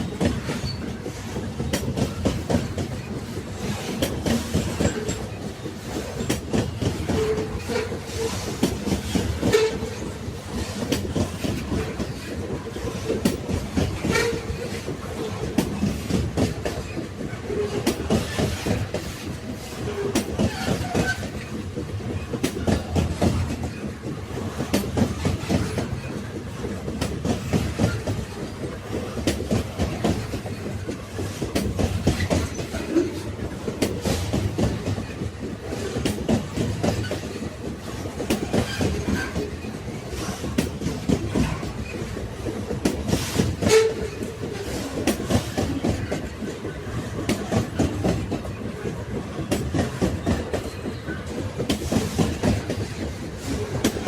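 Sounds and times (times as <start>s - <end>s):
railway wagons rolling: 0.0s - 54.0s
wheels clacking over rail joints: 0.0s - 54.0s.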